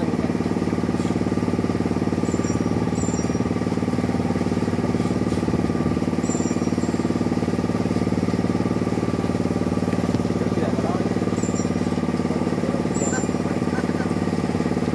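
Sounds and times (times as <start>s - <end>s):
small engine running steadily: 0.0s - 14.9s.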